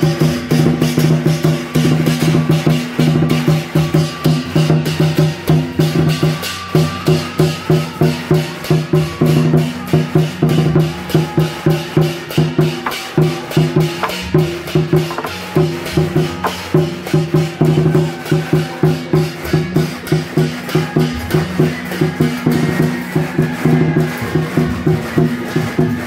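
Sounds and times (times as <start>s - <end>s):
cymbals: 0.0s - 26.0s
drum beating fast rhythm: 0.0s - 26.0s
ringing gongs: 0.0s - 26.0s.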